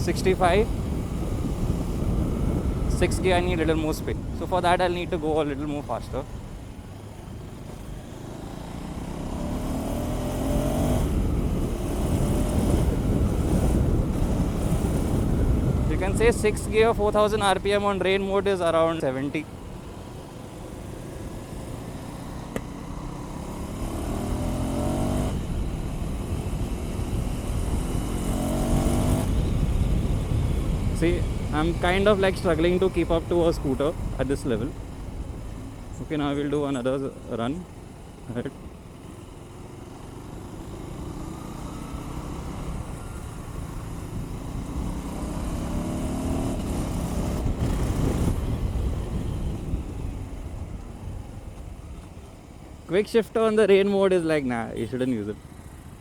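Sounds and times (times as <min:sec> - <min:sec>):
motorcycle engine accelerating: 0:00.0 - 0:18.1, 0:19.6 - 0:52.4
wind and road rush: 0:00.0 - 0:56.0.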